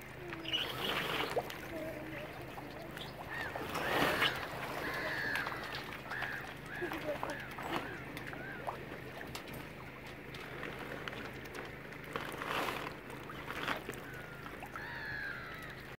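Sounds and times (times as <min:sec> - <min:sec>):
birds calling: 0:00.0 - 0:16.0
water noise: 0:00.0 - 0:16.0.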